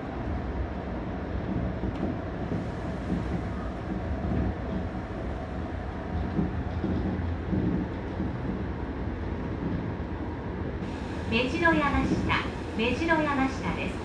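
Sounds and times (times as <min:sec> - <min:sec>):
monorail cabin rumble: 0:00.0 - 0:14.0.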